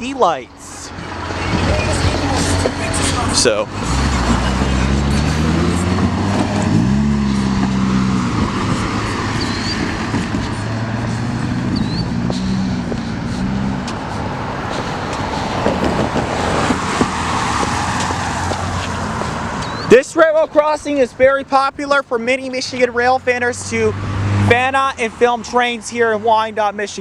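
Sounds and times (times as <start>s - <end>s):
vehicle accelerating: 0.0s - 20.0s, 22.6s - 25.1s
tyre and traffic noise: 0.0s - 27.0s
vehicle engines running: 0.0s - 27.0s.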